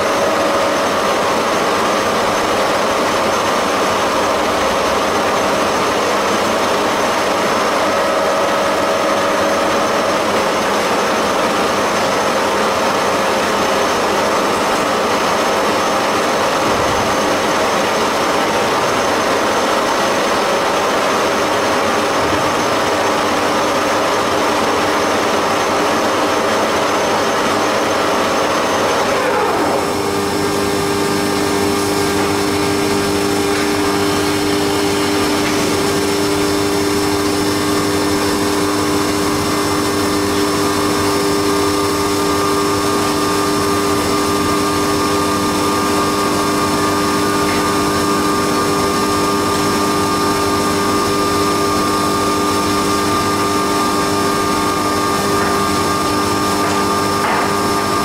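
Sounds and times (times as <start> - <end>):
milling machine humming: 0.0 - 58.0.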